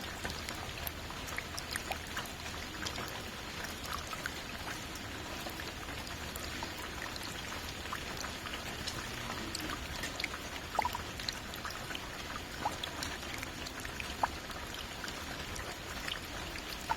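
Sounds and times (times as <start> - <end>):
rain falling: 0.0 - 16.9.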